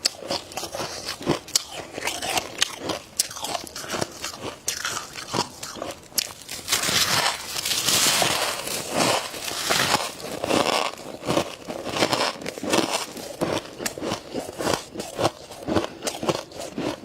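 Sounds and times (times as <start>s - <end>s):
frost being chewed crunching: 0.0s - 17.0s.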